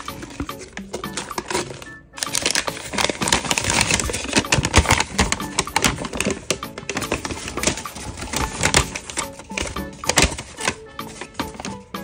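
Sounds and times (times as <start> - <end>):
paper leaflet crinkling: 0.0 - 12.0.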